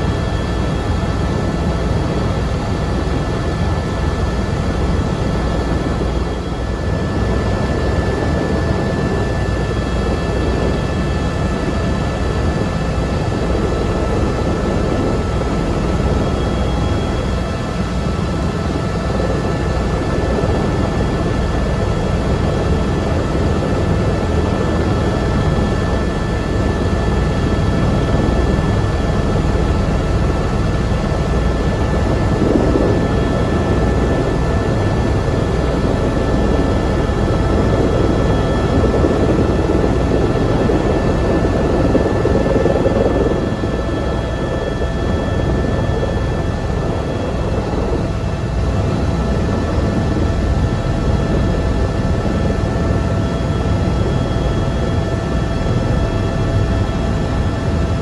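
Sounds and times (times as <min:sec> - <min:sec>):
helicopter rotor beat: 0:00.0 - 0:58.0
helicopter turbine whine: 0:00.0 - 0:58.0.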